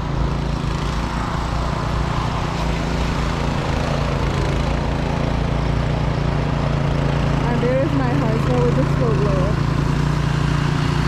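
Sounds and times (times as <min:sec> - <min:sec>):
snowblower engine running: 0:00.0 - 0:11.0.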